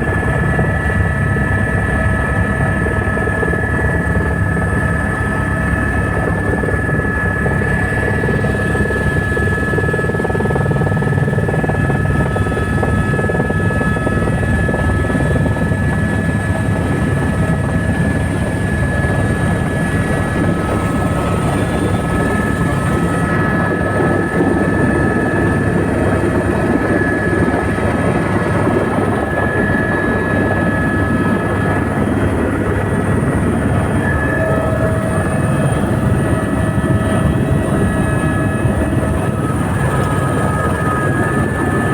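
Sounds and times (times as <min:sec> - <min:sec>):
helicopter rotor beat: 0:00.0 - 0:41.9.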